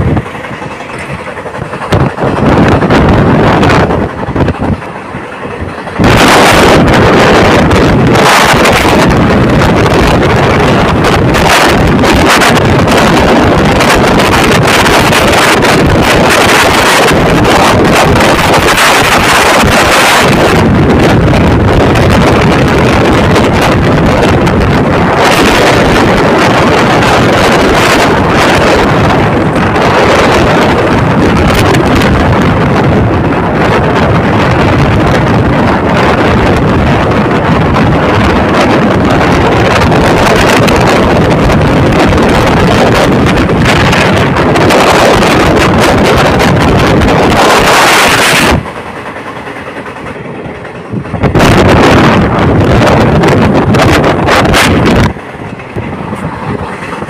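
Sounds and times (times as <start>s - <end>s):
train running on track: 0.0s - 57.0s
wind buffeting microphone: 0.0s - 57.0s.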